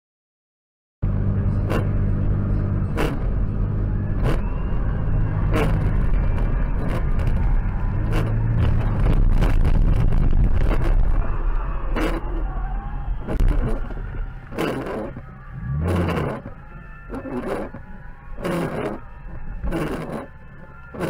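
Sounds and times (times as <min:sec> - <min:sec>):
car engine and road rumble: 0:01.0 - 0:21.0.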